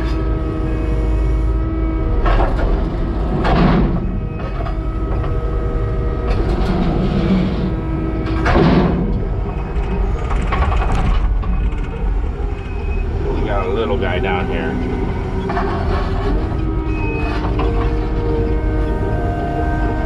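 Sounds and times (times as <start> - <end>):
skid steer diesel engine: 0.0 - 20.0.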